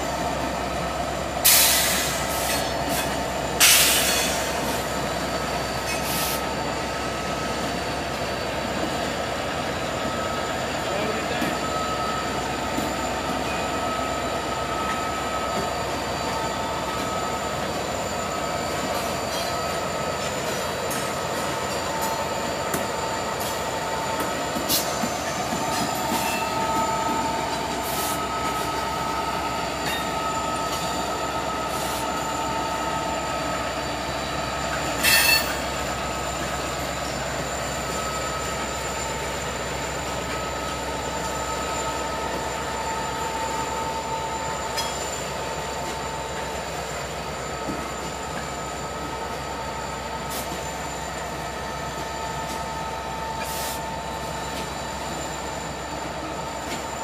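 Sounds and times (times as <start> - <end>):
train wheels squealing on rail: 0.0 - 57.0.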